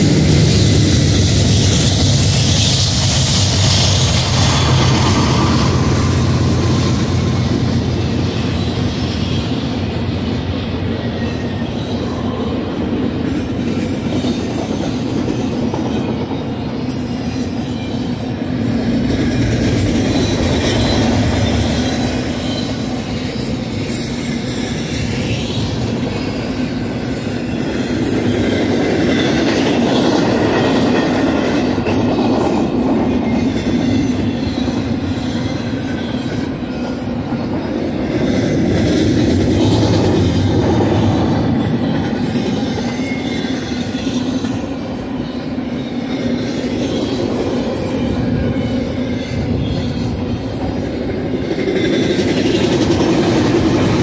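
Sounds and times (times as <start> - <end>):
diesel locomotive drone: 0.0 - 54.0
train wheels rumbling and clattering: 0.0 - 54.0.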